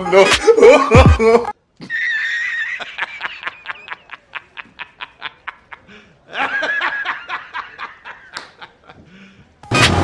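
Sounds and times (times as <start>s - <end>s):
person laughing: 0.0s - 9.2s.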